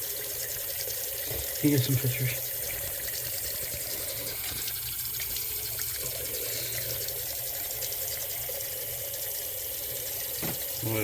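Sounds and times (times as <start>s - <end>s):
water running from faucet into sink: 0.0s - 11.0s.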